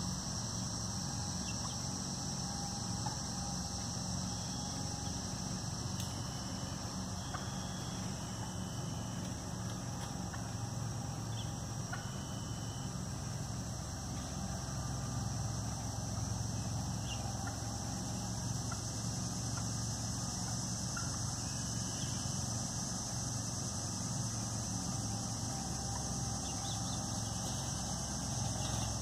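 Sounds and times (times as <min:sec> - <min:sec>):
insect chorus: 0:00.0 - 0:29.0
low steady hum: 0:00.0 - 0:29.0.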